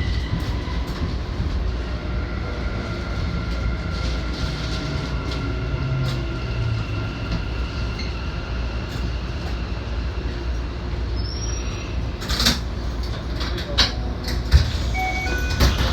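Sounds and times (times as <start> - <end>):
electric train rumble: 0.0 - 15.9.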